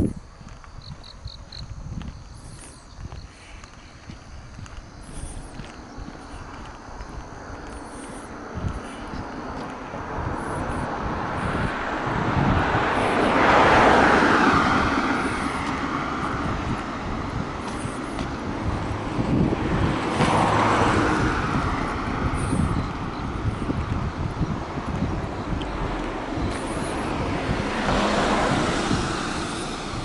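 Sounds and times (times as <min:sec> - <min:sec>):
cars passing: 0:00.0 - 0:30.0.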